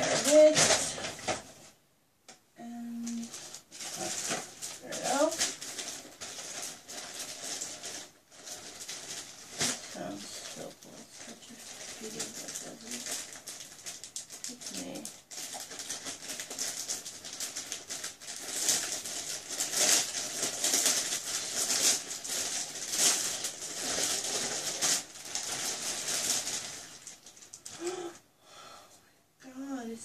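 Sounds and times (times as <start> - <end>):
plastic bag crinkling: 0.0 - 1.8, 2.6 - 28.1.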